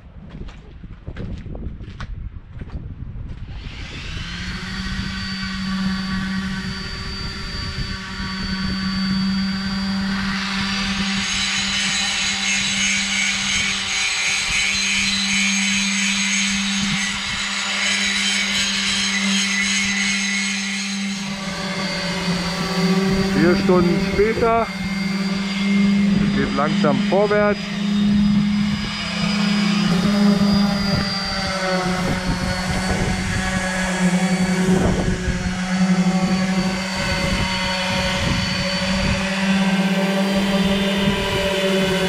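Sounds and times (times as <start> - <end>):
electric sander whining: 3.3 - 42.0
second sander higher whine: 3.3 - 42.0.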